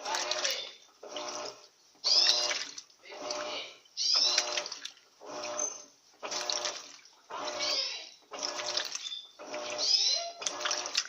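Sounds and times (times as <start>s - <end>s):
washing machine motor hum: 0.0s - 11.0s
water churning in washing machine: 0.0s - 11.0s.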